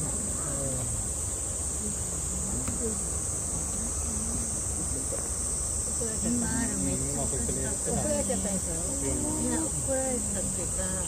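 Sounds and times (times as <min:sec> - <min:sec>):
cicadas chorus: 0:00.0 - 0:11.0
faint voices: 0:00.0 - 0:11.0.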